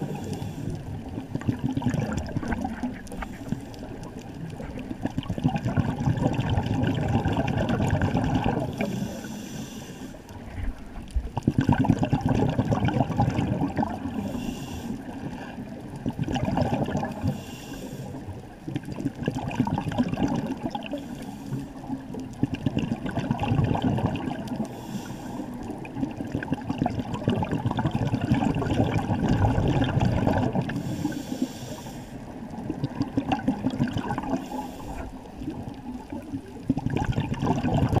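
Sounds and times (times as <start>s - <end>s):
underwater bubbles gurgling: 0.0s - 38.0s.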